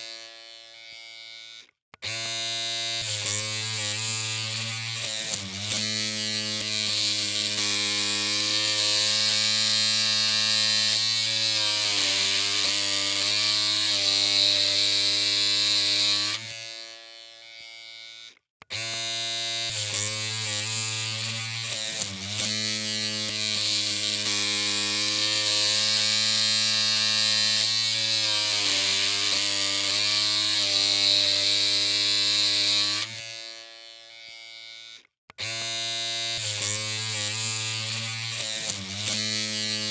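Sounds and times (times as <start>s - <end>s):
electric clippers buzzing: 0.0s - 39.9s.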